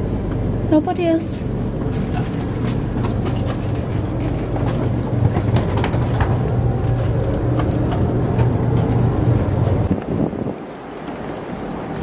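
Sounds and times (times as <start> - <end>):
train hum: 0.0 - 12.0.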